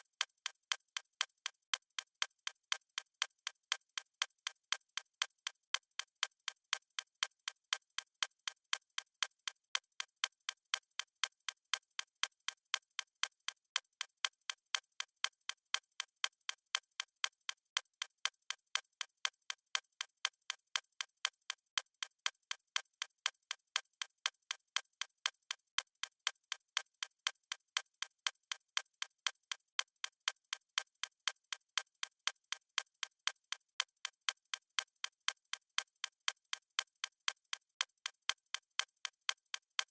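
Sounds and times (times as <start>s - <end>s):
stopwatch ticking: 0.0s - 39.9s.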